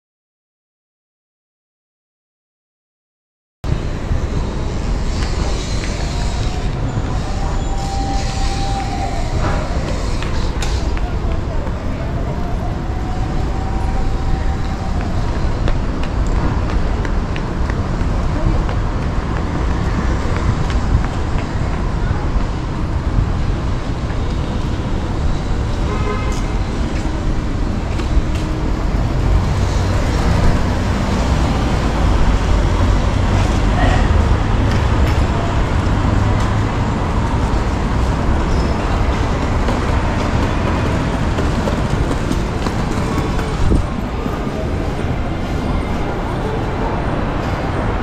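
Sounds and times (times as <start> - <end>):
road traffic rumble: 3.7 - 48.0
faint voices: 5.3 - 24.0, 27.0 - 48.0.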